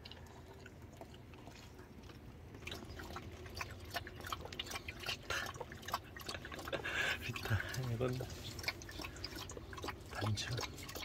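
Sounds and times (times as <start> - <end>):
dog licking puppies: 0.0 - 11.0.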